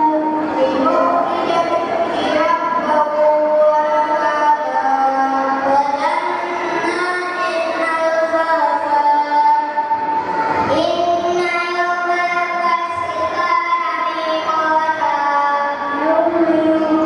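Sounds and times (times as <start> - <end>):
children singing a chant: 0.0 - 17.0.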